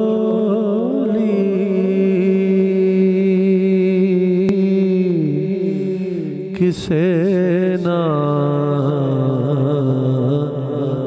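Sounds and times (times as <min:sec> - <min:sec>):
man singing melismatically: 0:00.0 - 0:11.0.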